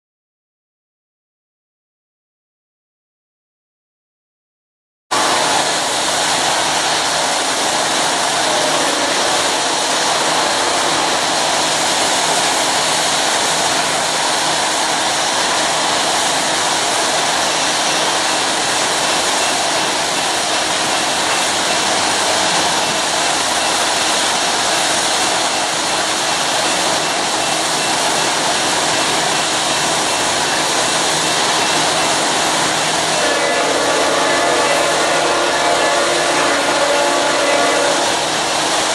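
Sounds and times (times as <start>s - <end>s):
loud rushing noise: 5.1s - 26.9s, 28.6s - 38.9s.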